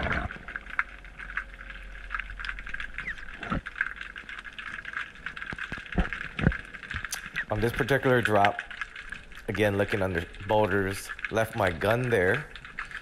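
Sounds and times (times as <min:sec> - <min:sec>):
underwater crackle of clicks: 0:00.0 - 0:13.0.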